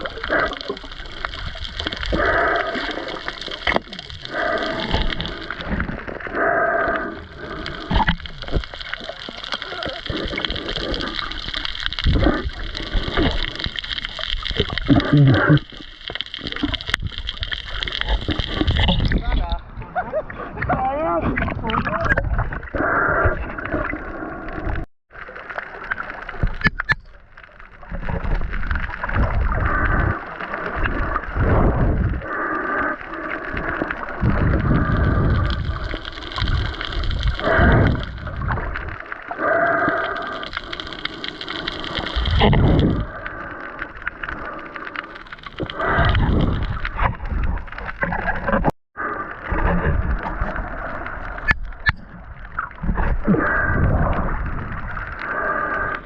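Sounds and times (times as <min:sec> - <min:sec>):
underwater sloshing and gurgling: 0:00.0 - 0:56.0.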